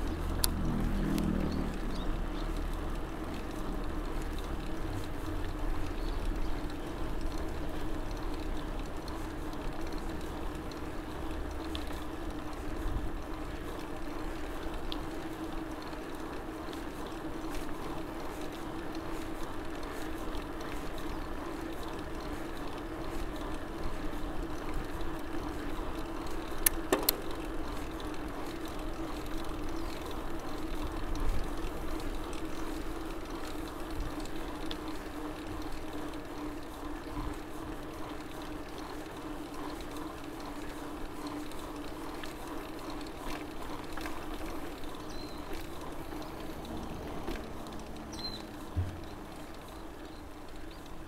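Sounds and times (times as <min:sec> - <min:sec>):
bike tyres humming on pavement: 0:00.0 - 0:51.0.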